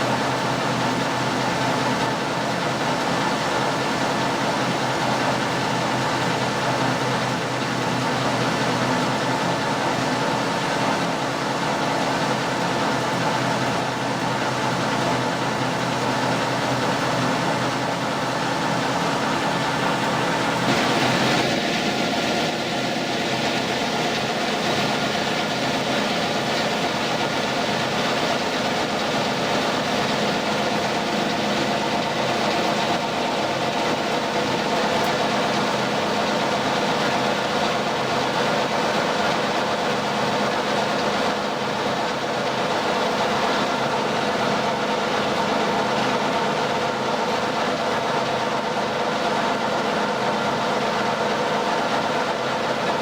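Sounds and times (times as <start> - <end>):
lathe machine hum with whining gears: 0.0 - 53.0.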